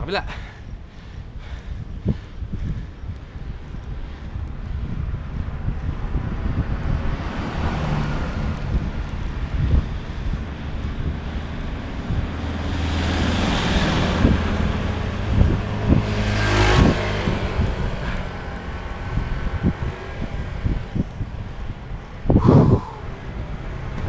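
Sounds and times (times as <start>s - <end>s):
wind rushing over microphone: 0.0s - 24.0s
motor vehicles passing: 0.6s - 24.0s.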